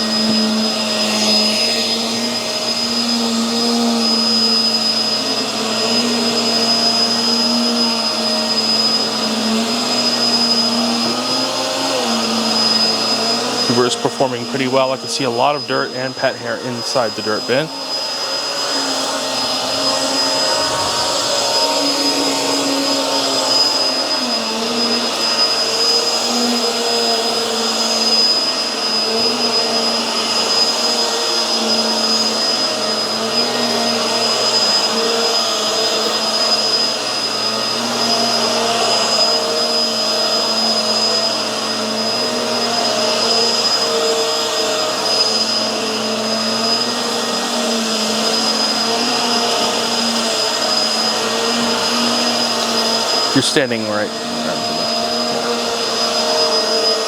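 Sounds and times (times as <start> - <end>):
vacuum cleaner on carpet: 0.0 - 57.0.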